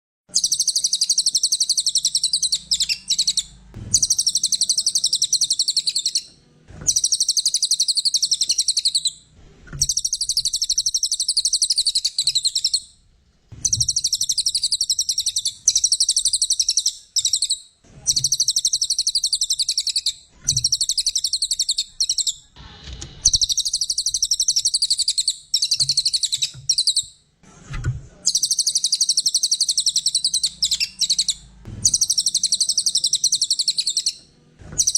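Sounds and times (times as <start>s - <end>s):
bird chattering song: 0.3s - 9.2s, 9.8s - 12.9s, 13.6s - 22.6s, 23.2s - 27.2s, 28.3s - 34.9s.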